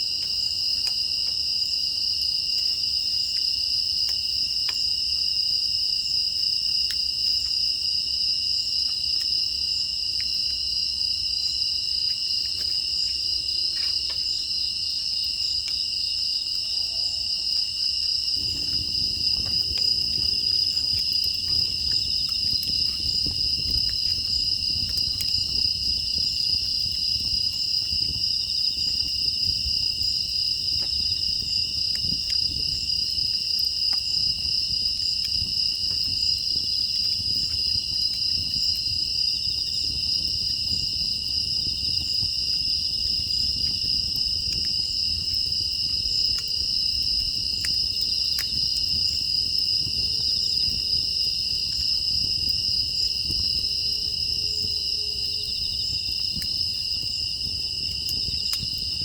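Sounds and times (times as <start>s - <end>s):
crickets chirping: 0.0s - 59.0s
wood fire crackling: 0.0s - 59.0s.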